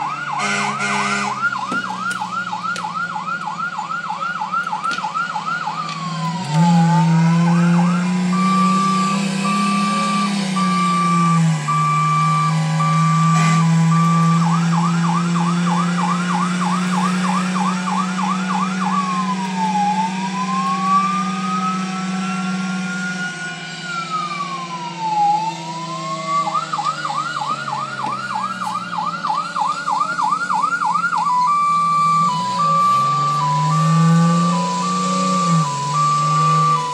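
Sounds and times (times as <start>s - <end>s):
electronic fire truck siren: 0.0s - 36.9s.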